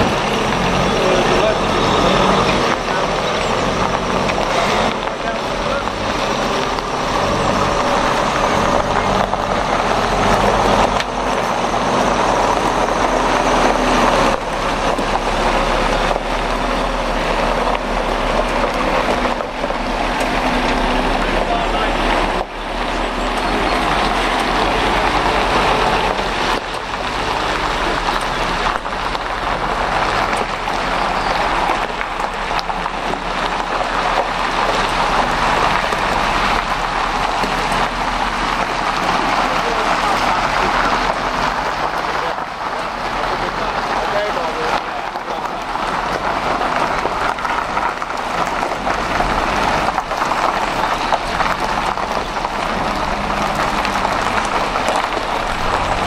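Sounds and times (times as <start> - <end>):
diesel lorry engine running: 0.0 - 56.0
tyres hissing on gravel: 0.0 - 56.0.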